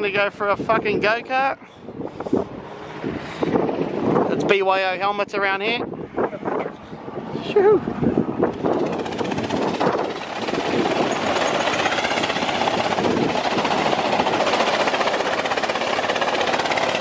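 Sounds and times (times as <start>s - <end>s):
go-kart engines buzzing: 1.7s - 4.3s, 5.8s - 17.0s.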